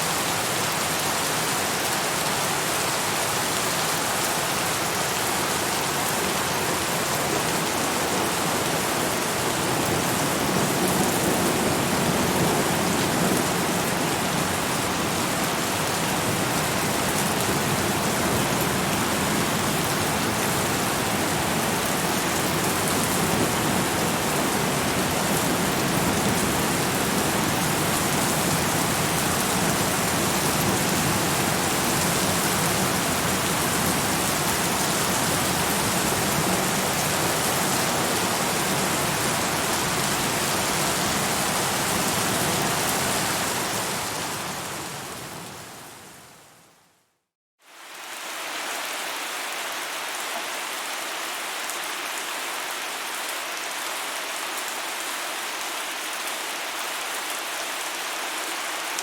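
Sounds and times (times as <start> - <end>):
heavy rain: 0.0 - 46.8, 47.6 - 59.0.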